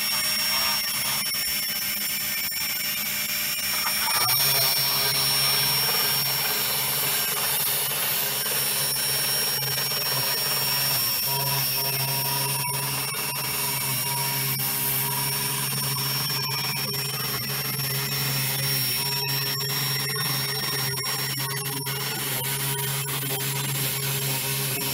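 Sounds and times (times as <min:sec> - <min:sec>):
electric motors whirring: 0:00.0 - 0:24.9.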